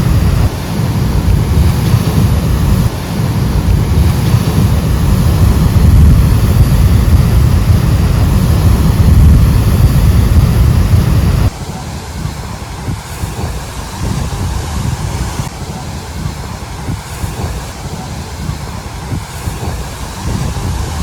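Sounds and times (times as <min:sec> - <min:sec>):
ocean surf: 0:00.0 - 0:21.0
wind buffeting microphone: 0:00.0 - 0:21.0.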